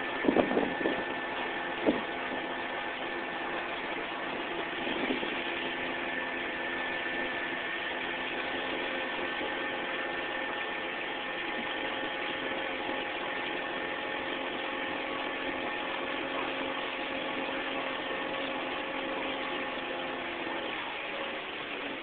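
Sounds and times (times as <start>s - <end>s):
boat motor humming: 0.0s - 22.0s
hiss of wind and water: 0.0s - 22.0s.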